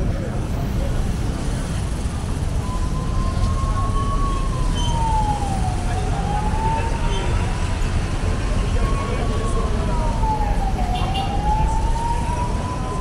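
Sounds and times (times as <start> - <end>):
city street traffic rumble: 0.0 - 13.0
siren wailing: 2.6 - 13.0.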